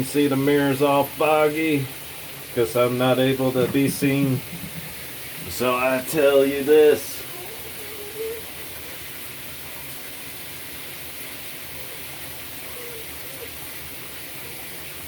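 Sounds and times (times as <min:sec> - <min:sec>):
water running steadily: 0:00.0 - 0:15.0.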